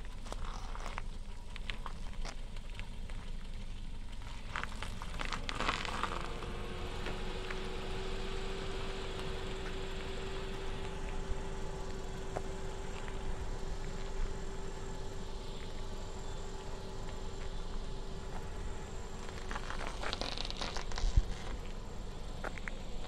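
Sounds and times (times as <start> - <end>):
car engine hum: 0.0 - 23.0.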